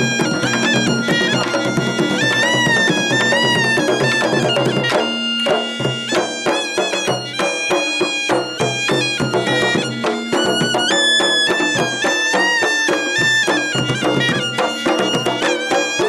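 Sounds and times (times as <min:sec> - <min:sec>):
hand-beaten barrel drums: 0:00.0 - 0:16.0
reedy wind instrument melody: 0:00.0 - 0:16.0.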